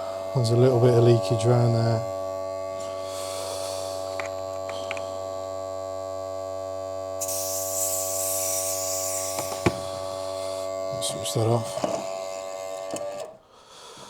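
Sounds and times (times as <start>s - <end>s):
air hissing: 0.0s - 5.3s, 7.2s - 14.0s
electric air pump buzzing: 0.0s - 13.5s.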